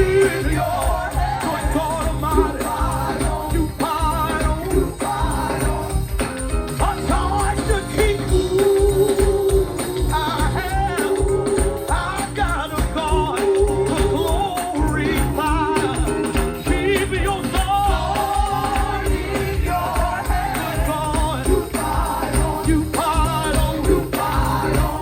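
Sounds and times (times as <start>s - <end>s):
band with steady percussive beat: 0.0s - 25.0s
voices singing gospel: 0.0s - 25.0s.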